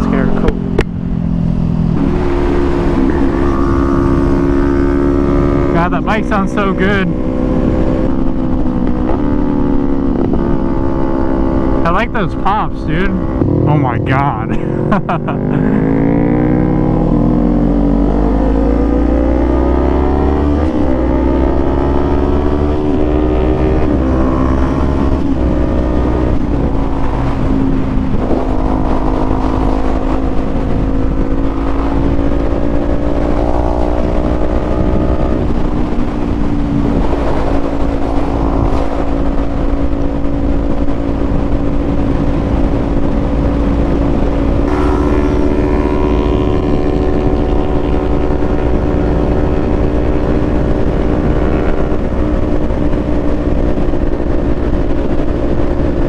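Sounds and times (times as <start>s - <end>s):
motorcycle engine revving through gears: 0.0s - 14.0s, 14.7s - 56.0s
wind rumble on microphone: 0.0s - 56.0s.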